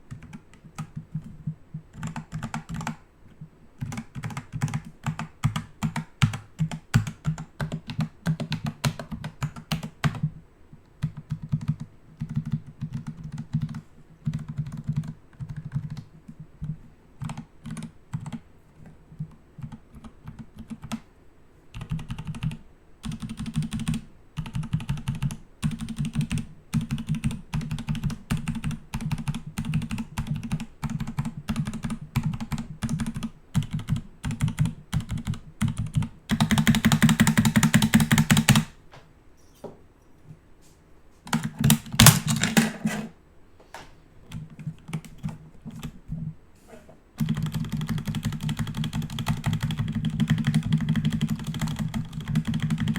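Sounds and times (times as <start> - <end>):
typing on computer keyboard: 0.1 - 10.3, 11.0 - 21.1, 21.7 - 38.8, 41.3 - 43.1, 44.3 - 46.0, 47.2 - 52.9.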